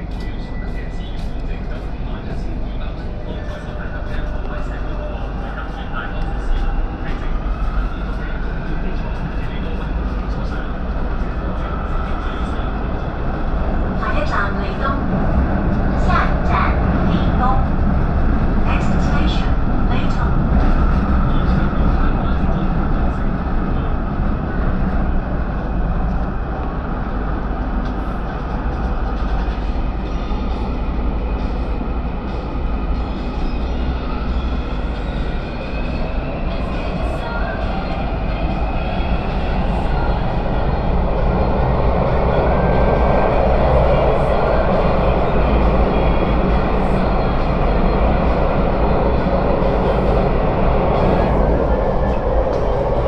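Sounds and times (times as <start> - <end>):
metro train wheels rumbling: 0.0 - 53.0.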